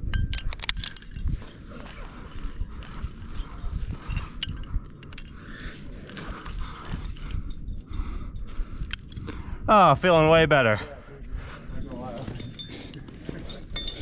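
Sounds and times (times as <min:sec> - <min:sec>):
climbing gear clicking and clinking: 0:00.0 - 0:09.3, 0:11.6 - 0:14.0.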